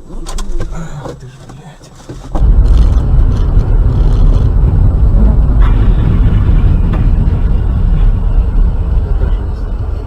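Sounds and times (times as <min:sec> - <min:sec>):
car driving low rumble: 0:00.0 - 0:10.0.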